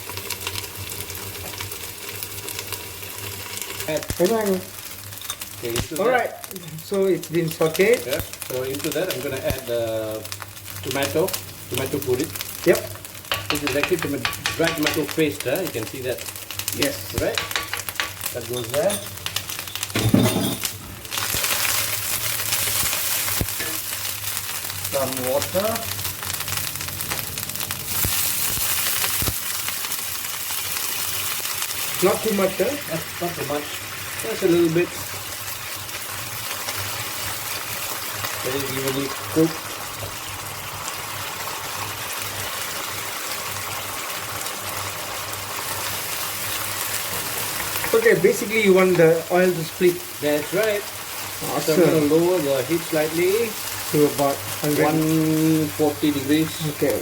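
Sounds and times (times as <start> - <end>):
food sizzling in a wok: 0.0 - 57.0.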